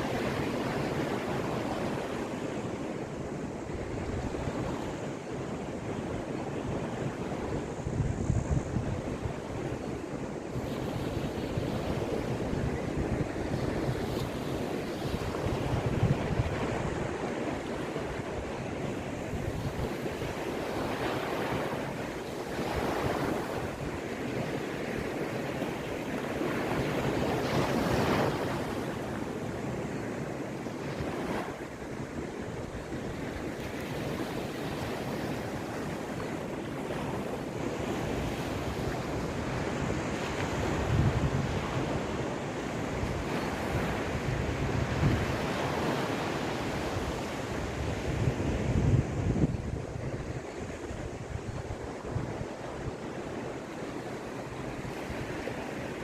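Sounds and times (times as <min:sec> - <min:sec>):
sea waves breaking on shore: 0:00.0 - 0:56.0
wind buffeting microphone: 0:00.0 - 0:56.0.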